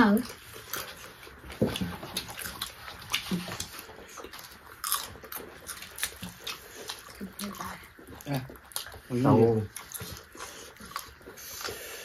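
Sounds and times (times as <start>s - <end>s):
people chewing and crunching food: 0.0s - 12.0s.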